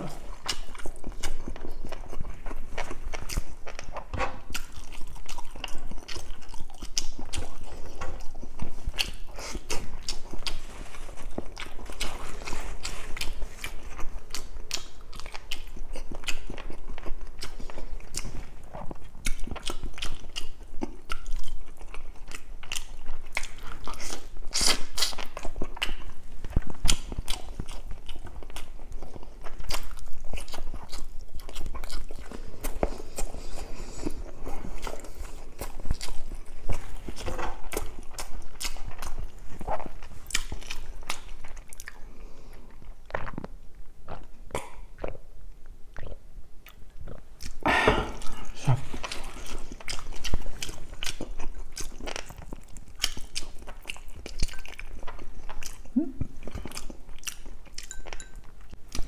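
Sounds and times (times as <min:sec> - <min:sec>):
person chewing and eating: 0:00.0 - 0:59.0.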